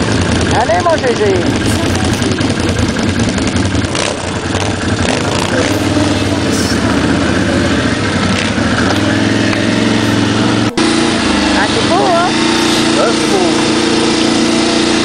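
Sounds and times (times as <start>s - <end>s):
quad bike engines running: 0.0s - 15.0s.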